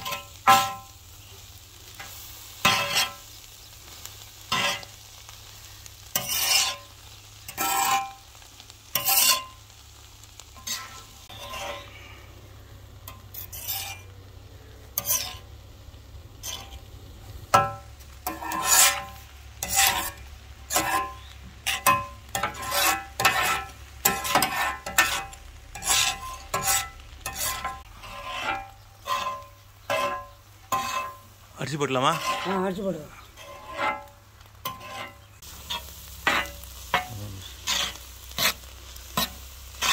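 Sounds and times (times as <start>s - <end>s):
metal spatula scraping griddle: 0.0s - 12.4s, 13.0s - 14.2s, 14.8s - 39.9s
faint sizzle: 0.0s - 39.9s.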